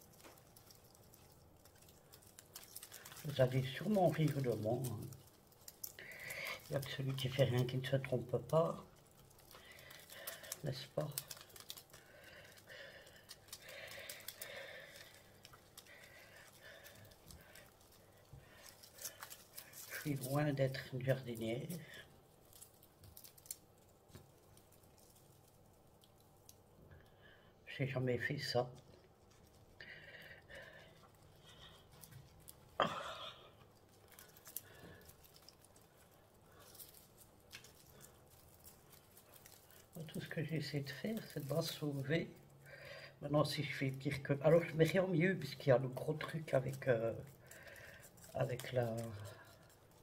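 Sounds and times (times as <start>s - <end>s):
soil rustling in plastic pot: 0.0s - 26.9s, 27.8s - 50.0s.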